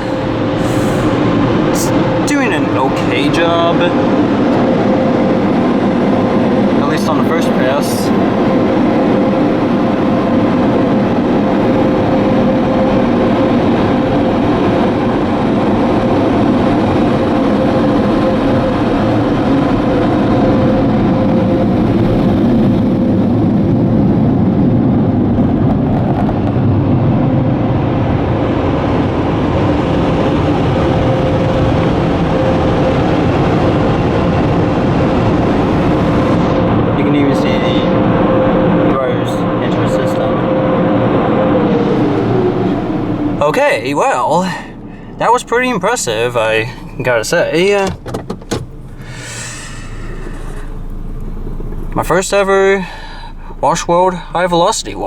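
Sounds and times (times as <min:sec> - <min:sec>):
car wash dryer blowers roaring: 0:00.0 - 0:55.0.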